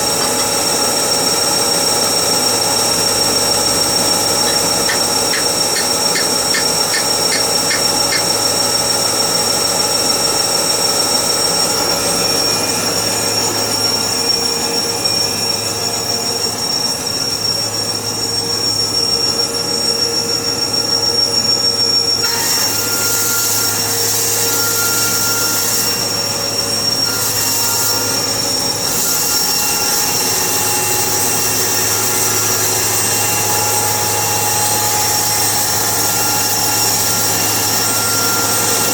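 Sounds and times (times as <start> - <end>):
harsh bright machine noise: 0.0 - 17.3, 22.2 - 38.9
sawmill running with high whine: 0.0 - 38.9.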